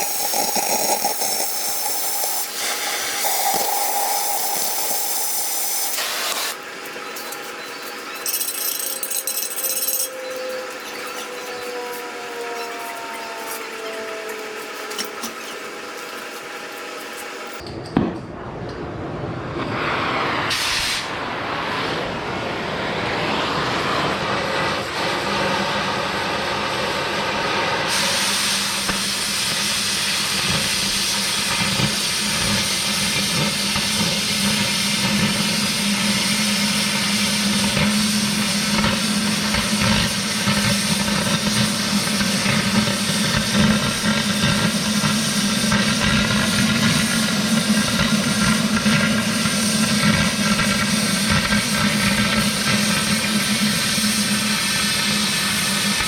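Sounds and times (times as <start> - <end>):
cutting torch hissing: 0.0 - 10.0, 19.8 - 56.0.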